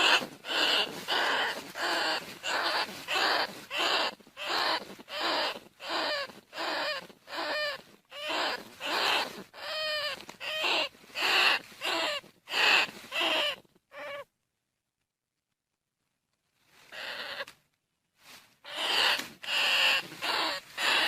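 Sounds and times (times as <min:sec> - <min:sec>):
rat squealing: 0:00.0 - 0:14.3, 0:16.9 - 0:17.5, 0:18.6 - 0:21.0.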